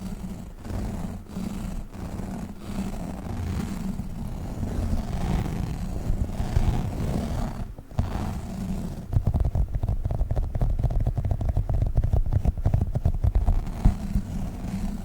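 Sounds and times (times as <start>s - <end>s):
gel balls rubbing on microphone: 0.0s - 15.0s.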